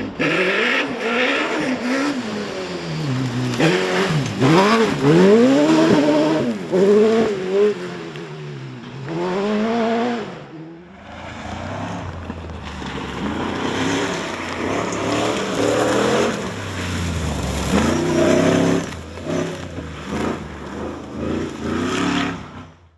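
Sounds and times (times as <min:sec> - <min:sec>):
rally car engines revving: 0:00.0 - 0:22.9.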